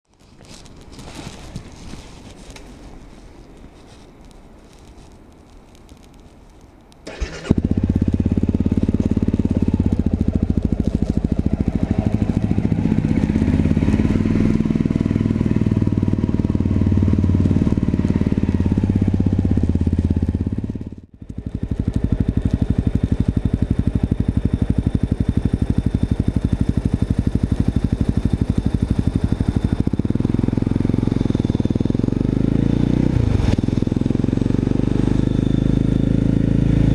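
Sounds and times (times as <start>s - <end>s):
motorcycle engine running: 7.1s - 36.9s.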